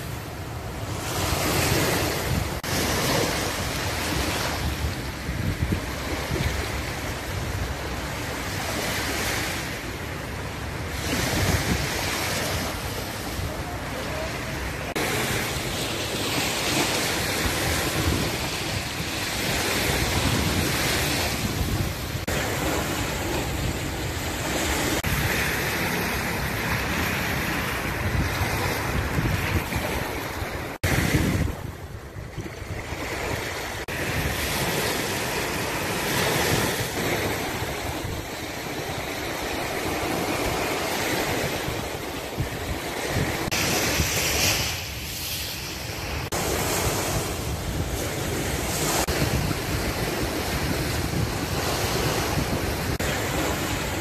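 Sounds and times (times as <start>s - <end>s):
sea waves washing on beach: 0.0s - 54.0s
wind buffeting microphone: 0.0s - 54.0s.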